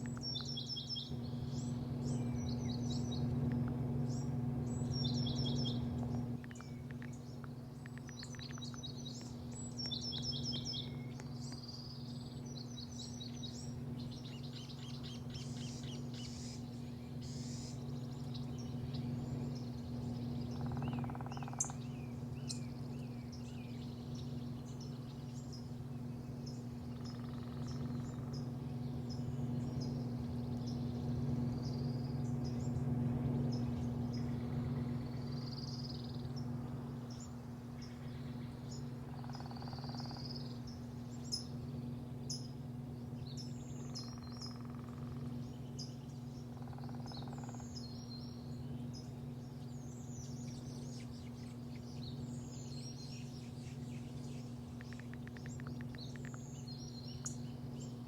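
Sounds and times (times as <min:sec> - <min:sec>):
low machine hum: 0:00.0 - 0:58.0
small birds chirping: 0:00.0 - 0:58.0.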